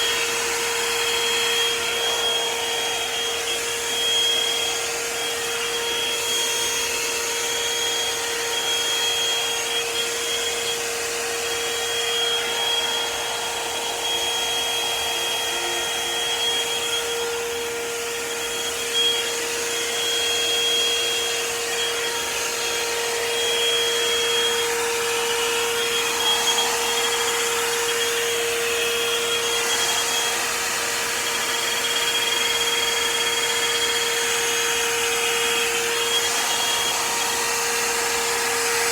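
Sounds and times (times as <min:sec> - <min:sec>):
hair dryer brush running: 0:00.0 - 0:38.9.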